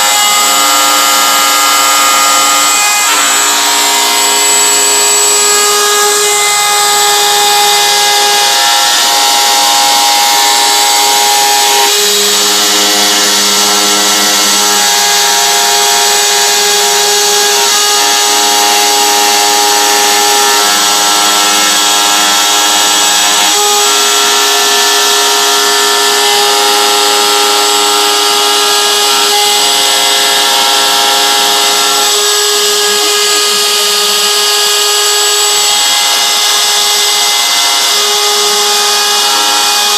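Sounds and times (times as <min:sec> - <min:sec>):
router spindle whine: 0:00.0 - 0:39.9
stepper motor tones: 0:00.0 - 0:39.9.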